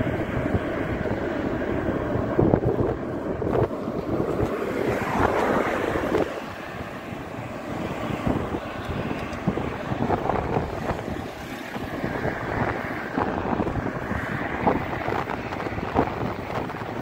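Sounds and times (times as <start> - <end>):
road and engine noise: 0.0 - 17.0
wind buffeting microphone: 0.0 - 17.0.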